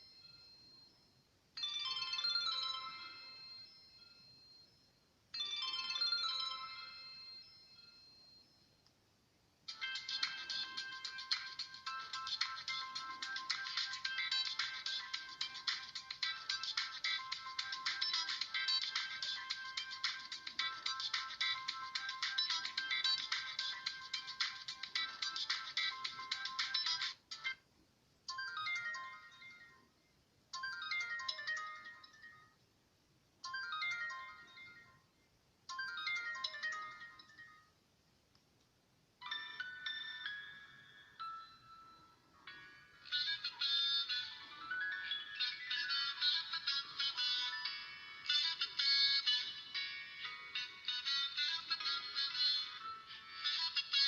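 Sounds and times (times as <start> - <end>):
high melodic ringtone: 0.0 - 8.8, 9.7 - 27.6, 28.3 - 29.9, 30.5 - 32.6, 33.4 - 37.8, 39.2 - 54.0
phone ringtone high notes: 0.0 - 8.8, 9.7 - 27.6, 28.3 - 29.9, 30.6 - 32.6, 33.4 - 35.1, 35.7 - 37.7, 39.2 - 54.0.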